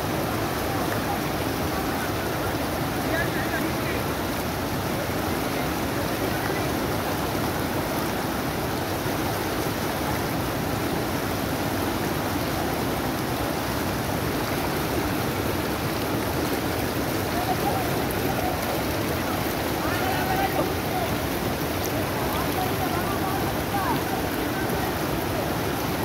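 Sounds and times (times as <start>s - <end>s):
floodwater rushing over rapids: 0.0s - 26.0s.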